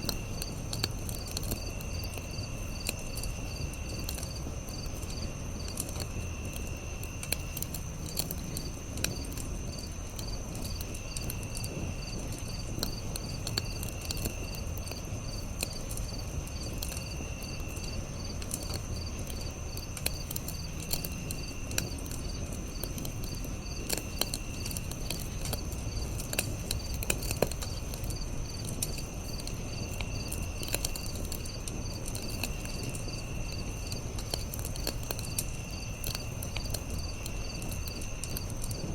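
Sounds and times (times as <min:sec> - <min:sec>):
campfire crackling: 0:00.0 - 0:38.9
insects trilling: 0:00.0 - 0:38.9
low insect trill: 0:00.0 - 0:38.9.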